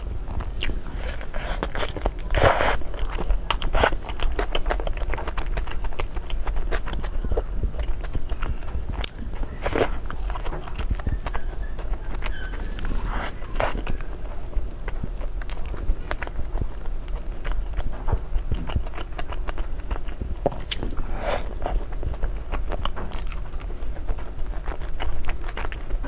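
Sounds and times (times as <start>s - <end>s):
person chewing crunchy food: 0.3s - 26.0s.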